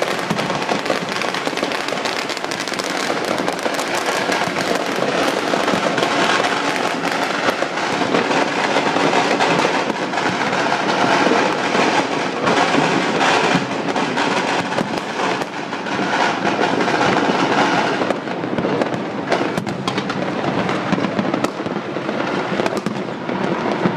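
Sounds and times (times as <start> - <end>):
fireworks and firecrackers exploding: 0.0 - 23.9.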